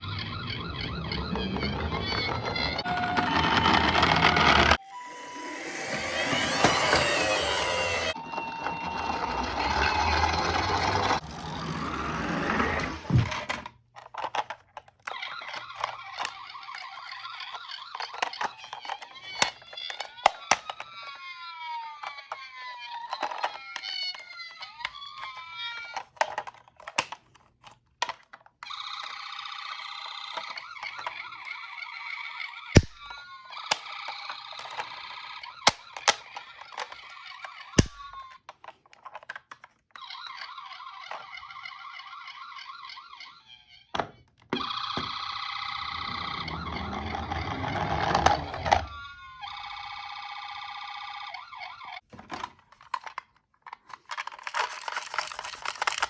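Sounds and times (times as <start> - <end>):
toy ambulance siren: 0.0 - 12.8, 15.1 - 26.5, 28.6 - 38.4, 40.0 - 52.0.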